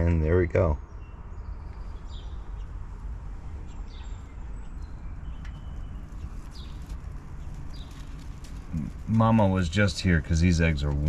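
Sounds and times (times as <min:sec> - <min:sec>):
small bird chirping: 0:00.0 - 0:09.9
low outdoor rumble: 0:00.0 - 0:11.0.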